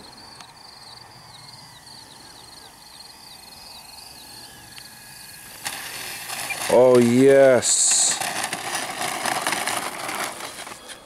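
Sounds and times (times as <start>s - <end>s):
crickets chirping: 0.0s - 11.0s
faint hiss: 0.0s - 11.0s.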